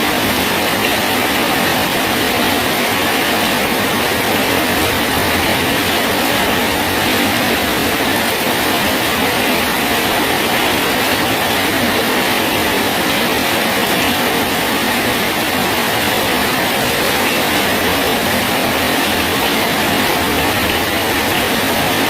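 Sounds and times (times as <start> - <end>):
steady rain hissing: 0.0 - 22.0.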